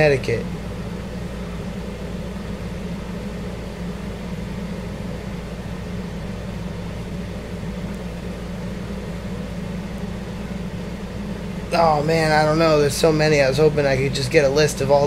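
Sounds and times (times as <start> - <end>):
steady low machine hum: 0.0 - 15.0.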